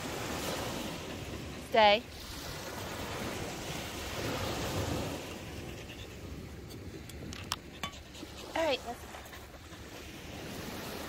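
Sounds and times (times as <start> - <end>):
surf washing up a sandy beach: 0.0 - 6.8, 8.2 - 11.0.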